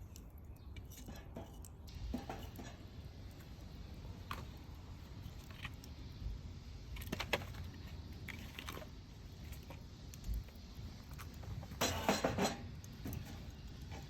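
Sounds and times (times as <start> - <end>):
bonfire crackling and popping: 0.0 - 14.0.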